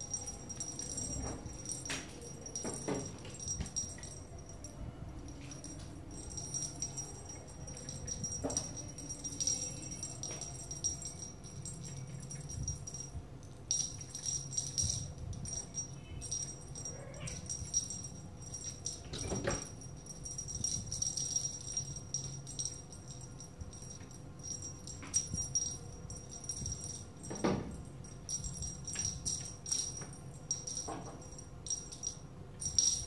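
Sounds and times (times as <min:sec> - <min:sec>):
small jingle bell ringing: 0:00.0 - 0:33.0.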